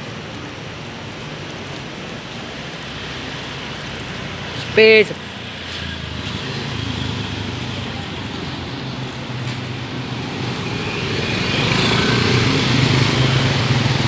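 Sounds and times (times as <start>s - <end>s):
scooter engines in traffic: 0.0s - 14.0s.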